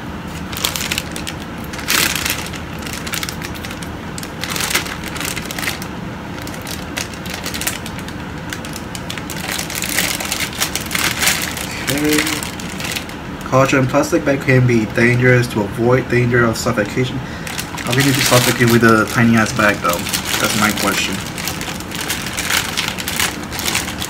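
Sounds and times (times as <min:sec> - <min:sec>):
plastic bag crinkling: 0:00.2 - 0:13.2, 0:16.8 - 0:24.0.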